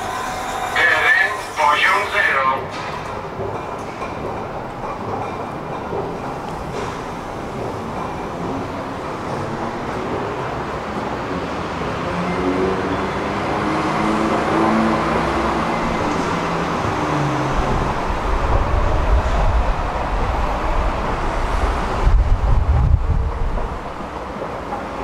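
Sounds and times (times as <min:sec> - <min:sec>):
road traffic noise: 0:00.0 - 0:23.2.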